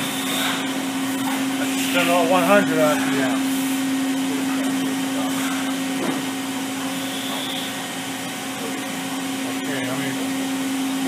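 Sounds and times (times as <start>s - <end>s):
machining center spindle hum: 0.0s - 11.0s.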